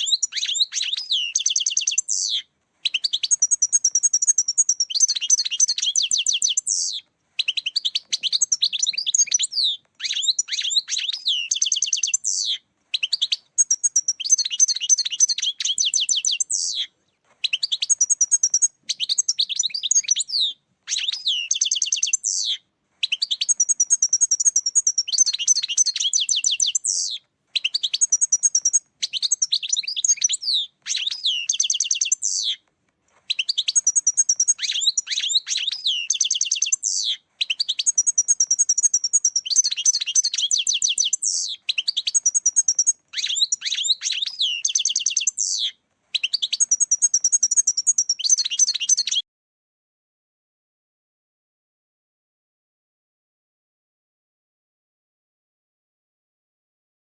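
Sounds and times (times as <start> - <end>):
goldfinch singing: 0.0 - 32.6, 33.3 - 49.2.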